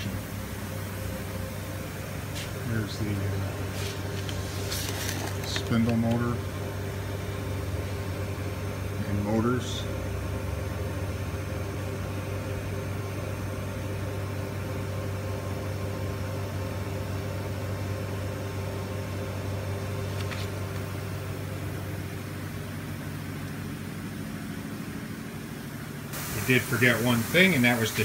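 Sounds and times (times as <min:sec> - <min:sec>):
machine low hum: 0:00.0 - 0:28.0.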